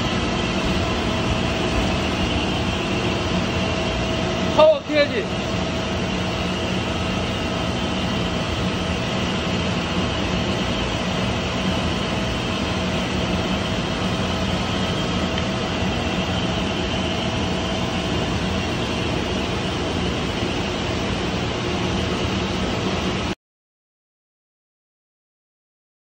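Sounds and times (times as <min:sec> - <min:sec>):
faint steady whine: 0:00.0 - 0:23.4
pump motor droning: 0:00.0 - 0:23.4.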